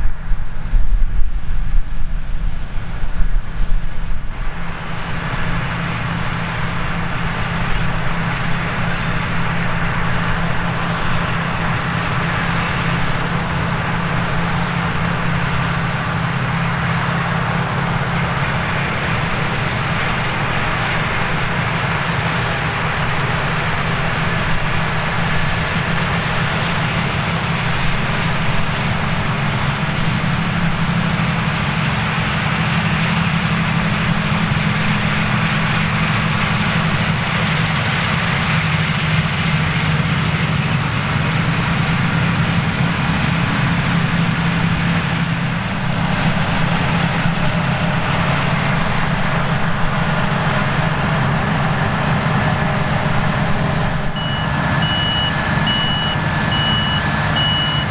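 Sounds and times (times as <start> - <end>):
diesel engine drone: 0.0 - 57.9
rushing mechanical noise: 0.0 - 57.9.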